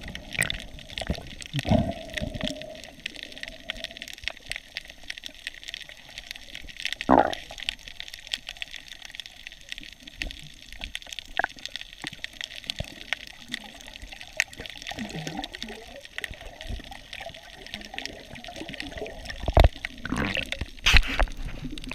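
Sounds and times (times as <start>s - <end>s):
crackle of small clicks: 0.0s - 21.9s
underwater water noise: 0.0s - 21.9s.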